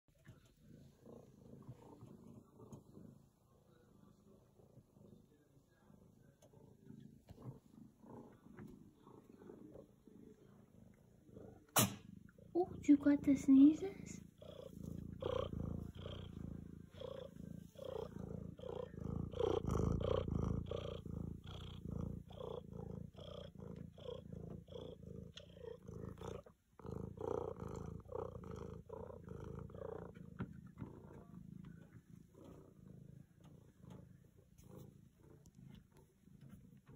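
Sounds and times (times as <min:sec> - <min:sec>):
cat purring loudly: 0:00.2 - 0:36.9.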